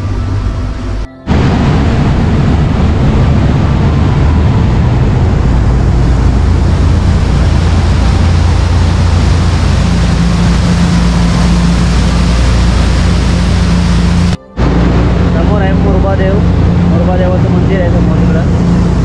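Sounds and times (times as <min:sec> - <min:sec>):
boat engines humming: 0:00.0 - 0:19.0
churning wake rushing: 0:00.0 - 0:19.0
higher steady hum: 0:00.0 - 0:19.0.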